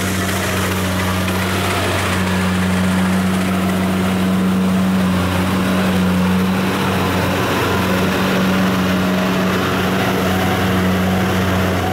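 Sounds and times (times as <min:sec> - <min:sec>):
small engine humming: 0:00.0 - 0:11.9.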